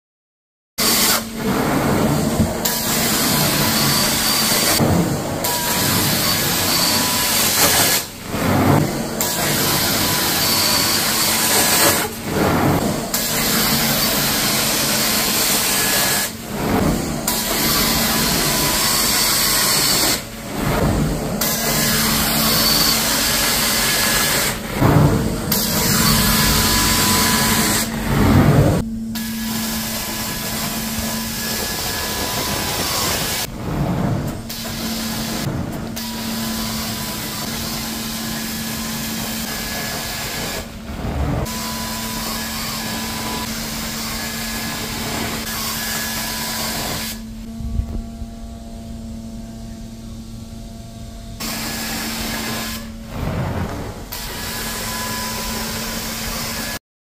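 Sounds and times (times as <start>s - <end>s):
machine hum: 0.8s - 56.8s.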